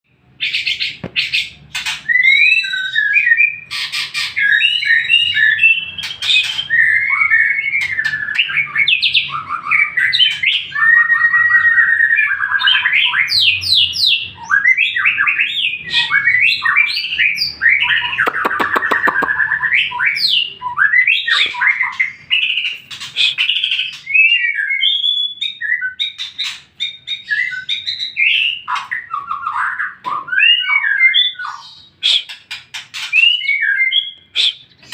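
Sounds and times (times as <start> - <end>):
songbird singing whistled phrases: 2.0 - 32.4, 33.0 - 34.9.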